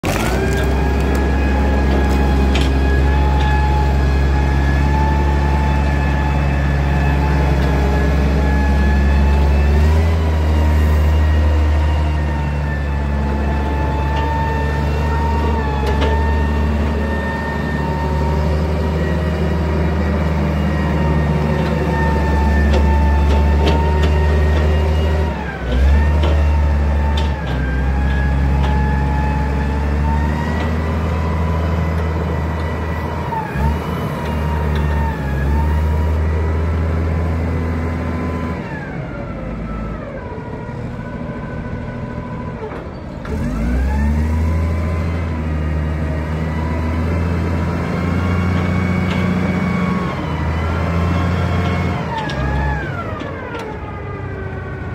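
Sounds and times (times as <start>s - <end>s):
forklift diesel engine running: 0.0s - 54.9s.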